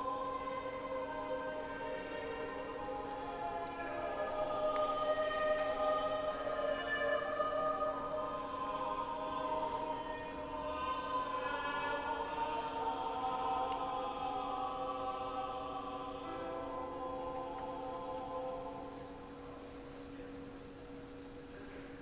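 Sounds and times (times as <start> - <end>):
choir singing held chords: 0.0 - 19.7.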